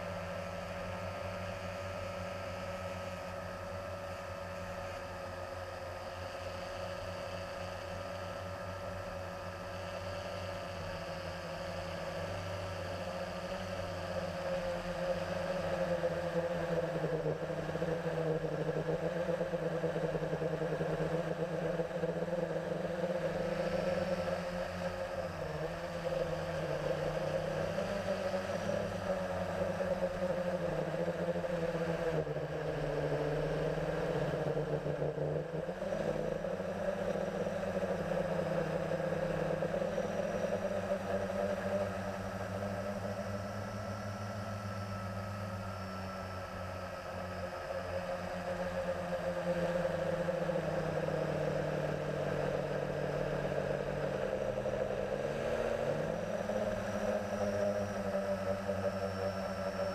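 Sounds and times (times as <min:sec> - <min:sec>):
quadcopter motors whirring: 0:00.0 - 0:59.9.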